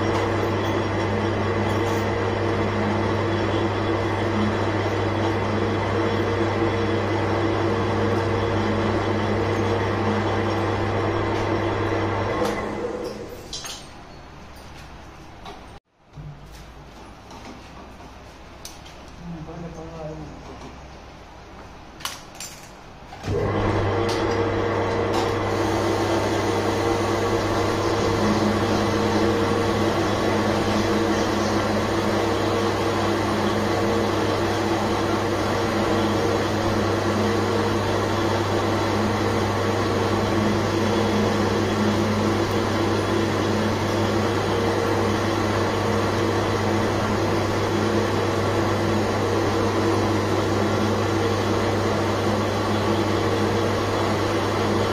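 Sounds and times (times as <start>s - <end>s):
lathe motor hum: 0.0s - 13.2s, 23.3s - 54.9s.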